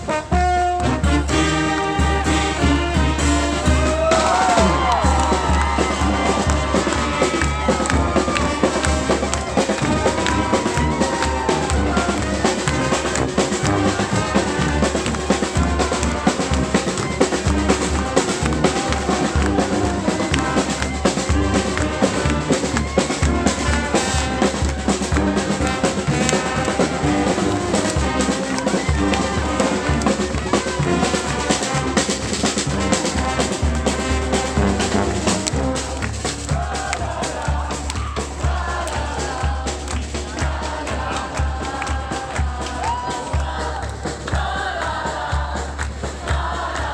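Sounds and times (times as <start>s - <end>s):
brass band playing: 0.0s - 46.9s
snare and bass drum beat: 0.0s - 46.9s.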